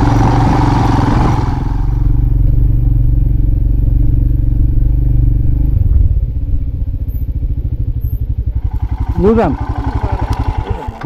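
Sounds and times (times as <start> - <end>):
motorcycle engine running and idling: 0.0 - 11.0.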